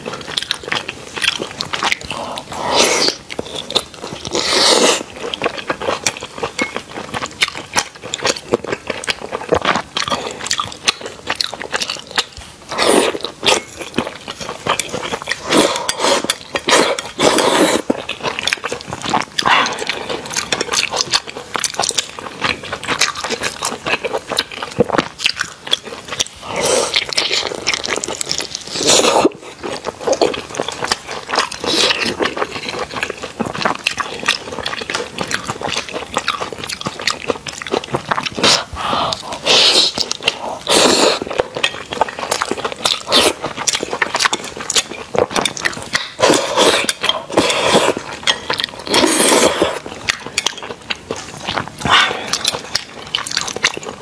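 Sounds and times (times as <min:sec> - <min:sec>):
biting and chewing food: 0:00.0 - 0:54.0.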